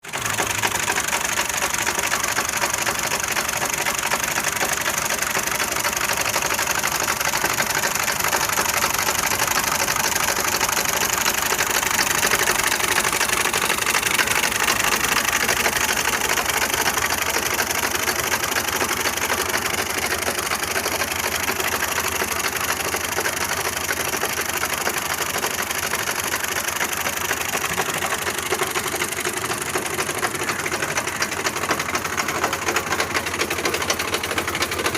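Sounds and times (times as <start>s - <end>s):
tractor engine clattering: 0.0s - 34.9s.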